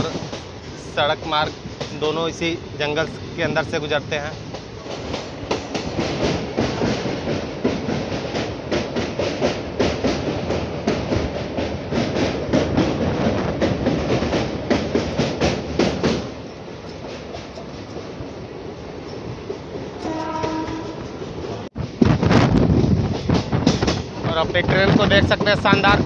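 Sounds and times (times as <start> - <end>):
train wheels clickety-clack: 0.0 - 18.4, 19.0 - 26.0
train rumble: 0.0 - 26.0.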